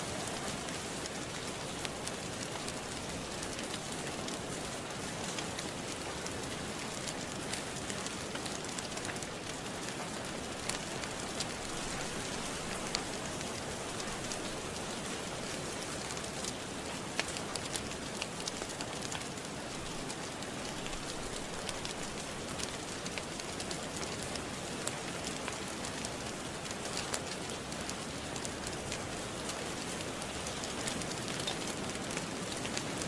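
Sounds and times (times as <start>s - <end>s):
steady rain: 0.0s - 33.0s
wood fire crackling: 0.0s - 33.0s.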